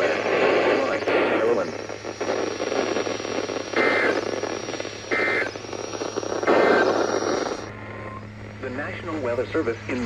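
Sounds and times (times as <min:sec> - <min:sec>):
radio static and hum: 0:00.0 - 0:10.0
warbling data bursts: 0:00.0 - 0:10.0.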